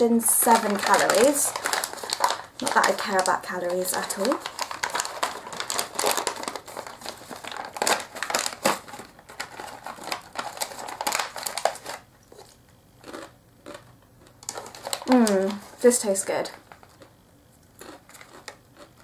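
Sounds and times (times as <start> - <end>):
snack packet crinkling: 0.2 - 19.0.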